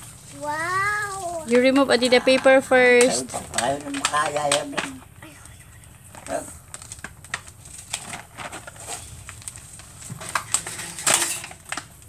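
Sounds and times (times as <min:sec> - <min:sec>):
plastic packaging crinkling: 0:01.0 - 0:12.0.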